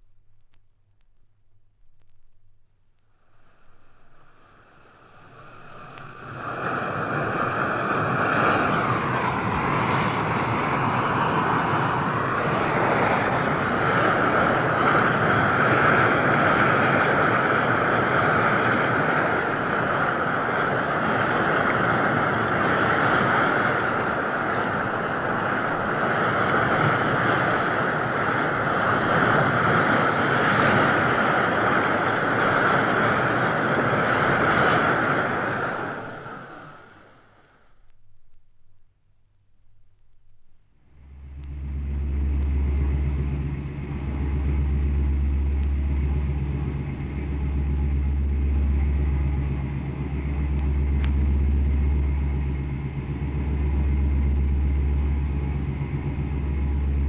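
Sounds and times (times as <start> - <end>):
aircraft engine drone: 2.7 - 37.8, 40.5 - 57.0.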